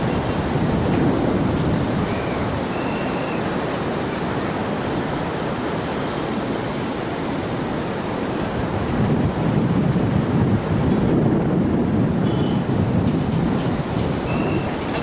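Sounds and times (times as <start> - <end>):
water pouring and splashing: 0.0 - 15.0.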